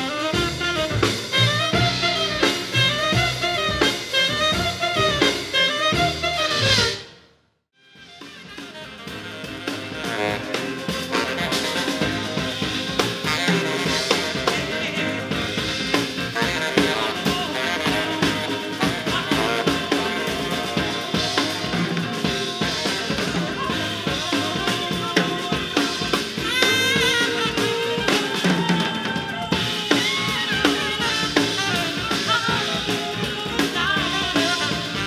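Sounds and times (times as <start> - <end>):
jazz band playing: 0.0 - 7.2, 7.8 - 35.0.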